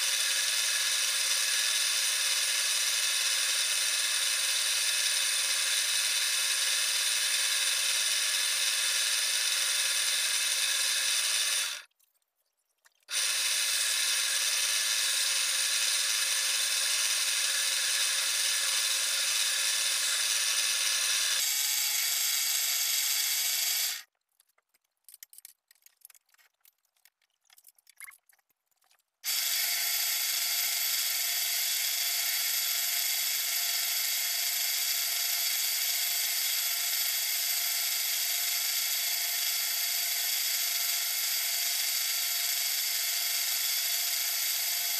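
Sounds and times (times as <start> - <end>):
lathe motor hum: 0.0 - 11.8, 13.1 - 24.0, 29.3 - 44.9.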